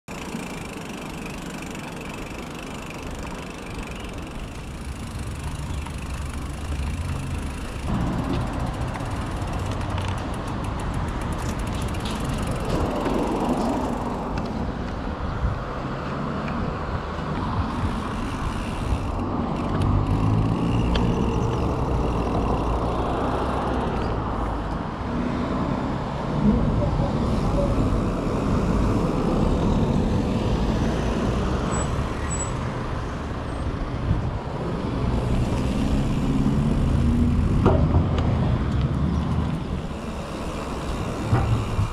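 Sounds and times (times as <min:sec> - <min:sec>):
road traffic rumble and hiss: 0:00.1 - 0:41.9.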